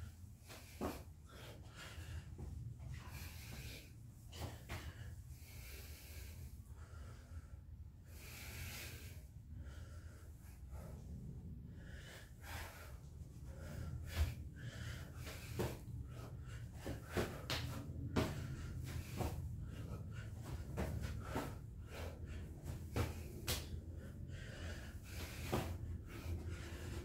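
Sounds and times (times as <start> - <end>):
man breathing hard: 0.0 - 27.0.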